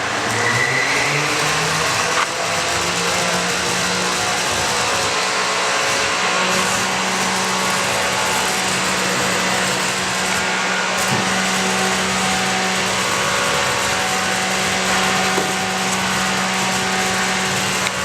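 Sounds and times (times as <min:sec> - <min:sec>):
insulation blowing machine rushing air: 0:00.0 - 0:18.0.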